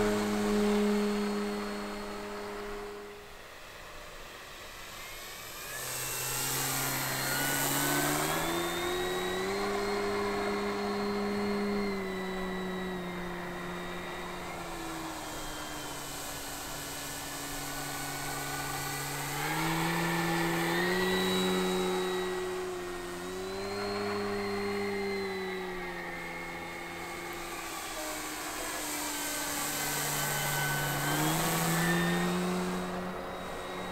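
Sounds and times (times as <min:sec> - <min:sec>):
model plane motor buzzing: 0:00.0 - 0:33.9.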